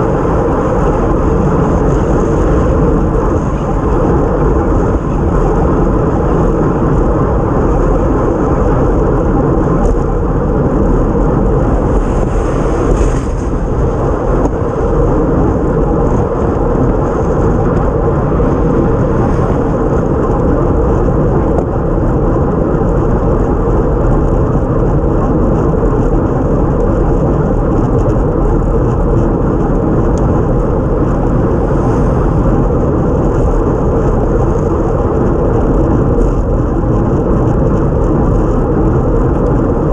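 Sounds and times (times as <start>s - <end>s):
tyres on wet road: 0.0s - 39.9s
wind rushing over microphone: 0.0s - 39.9s.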